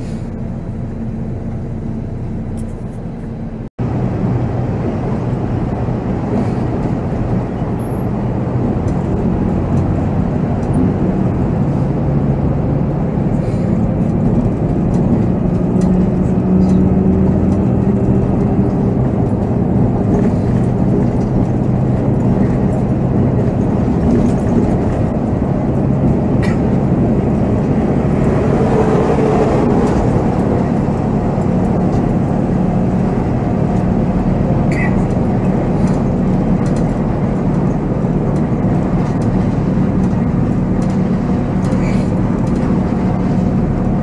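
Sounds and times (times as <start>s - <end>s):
diesel engine running: 0.0s - 44.0s
road noise: 0.0s - 44.0s.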